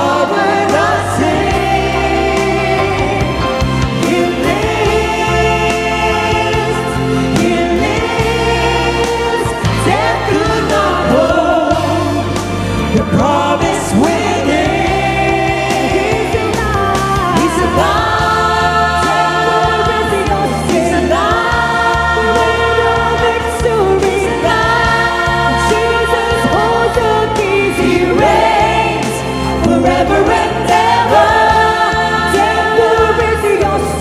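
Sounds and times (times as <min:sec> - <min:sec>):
band with bass: 0:00.0 - 0:34.0
gospel choir singing: 0:00.0 - 0:34.0.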